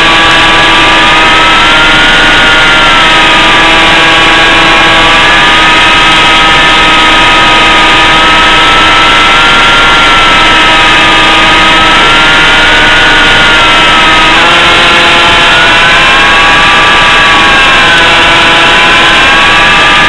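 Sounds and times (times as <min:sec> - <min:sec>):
loud rushing noise: 0:00.0 - 0:20.0
model plane motor whining: 0:00.0 - 0:20.0.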